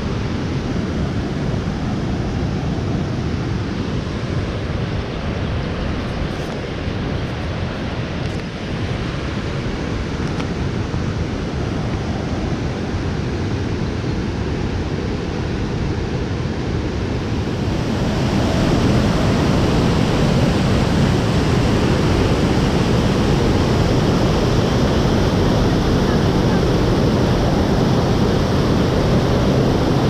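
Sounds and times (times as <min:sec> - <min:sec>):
steady rushing noise: 0:00.0 - 0:30.0.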